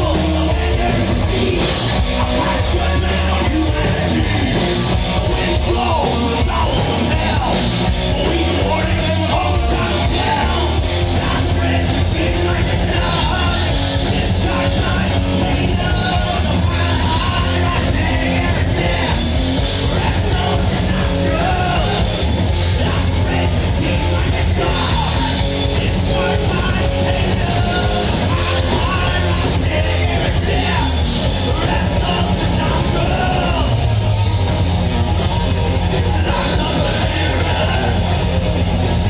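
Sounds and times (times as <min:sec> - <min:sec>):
heavy metal band playing live: 0:00.0 - 0:39.0
sung and yelled vocals: 0:00.0 - 0:39.0.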